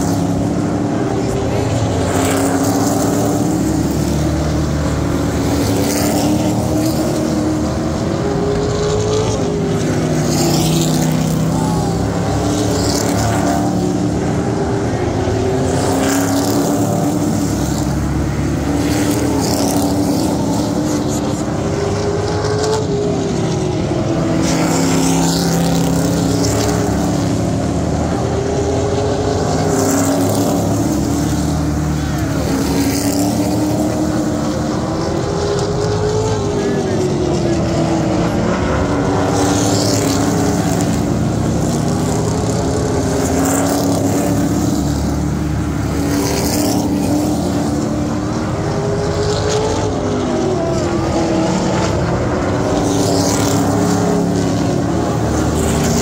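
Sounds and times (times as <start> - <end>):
stock car engines racing: 0.0 - 56.0.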